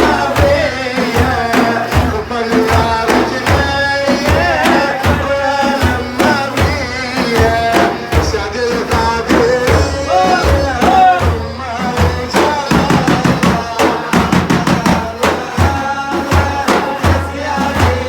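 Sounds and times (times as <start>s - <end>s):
drums beating steady rhythm: 0.0s - 18.0s
man chanting praise song: 0.0s - 18.0s.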